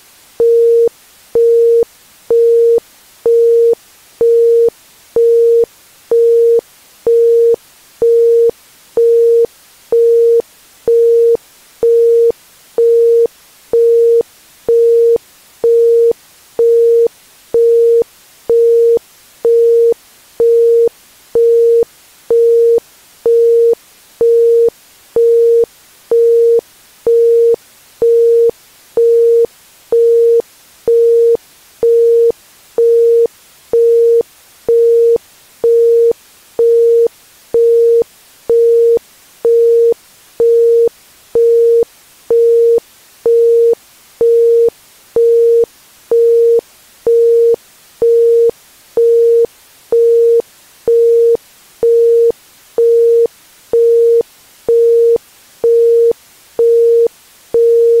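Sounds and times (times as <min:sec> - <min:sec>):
faint background hiss: 0:00.0 - 0:58.0.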